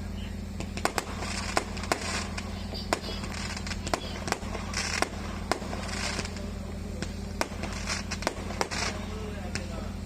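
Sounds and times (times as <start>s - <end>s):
steady low hum: 0.0s - 10.0s
hissing crackle: 0.4s - 10.0s
firecracker bangs: 0.6s - 9.8s.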